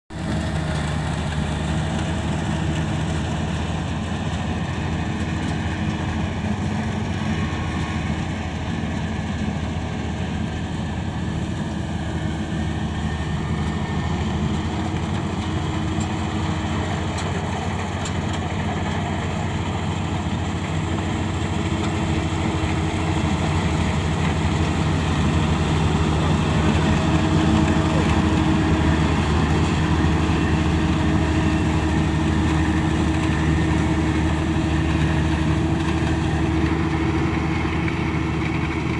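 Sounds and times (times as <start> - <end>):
diesel engine running: 0.1 - 38.9
harvester machinery working: 0.1 - 38.9.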